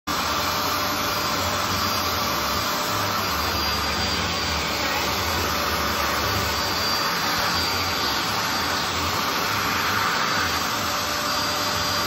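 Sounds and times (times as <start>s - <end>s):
carpet cleaner suction motor: 0.1s - 12.0s.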